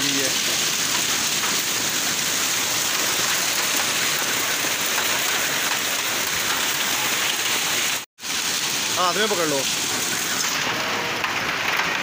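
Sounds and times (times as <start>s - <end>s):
heavy rain and hail on concrete: 0.0s - 12.0s.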